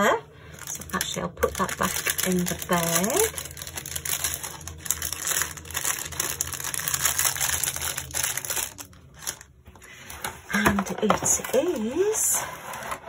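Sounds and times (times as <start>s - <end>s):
plastic bag crinkling: 0.5s - 13.0s.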